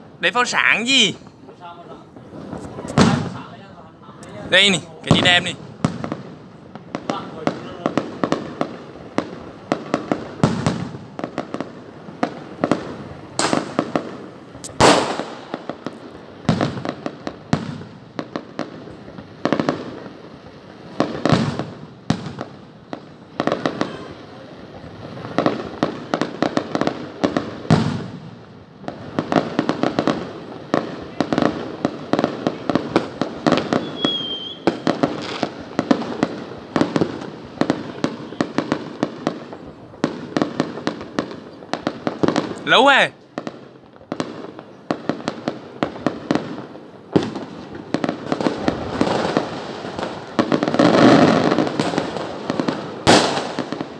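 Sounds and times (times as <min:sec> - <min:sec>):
fireworks bangs: 0:00.0 - 0:53.9
loud single firework bangs: 0:00.2 - 0:53.9.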